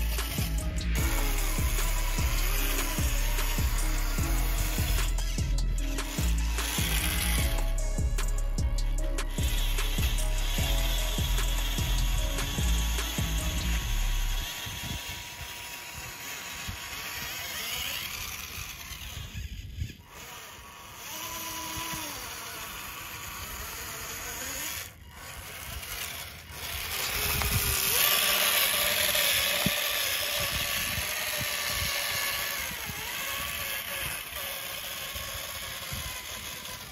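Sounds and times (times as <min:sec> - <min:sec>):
small electric motor whining: 0:00.0 - 0:36.9.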